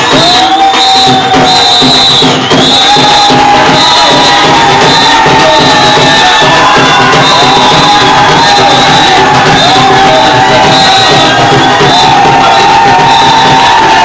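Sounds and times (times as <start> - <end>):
bhangra music with drum beat: 0.0 - 14.0
crowd shouting: 0.0 - 14.0.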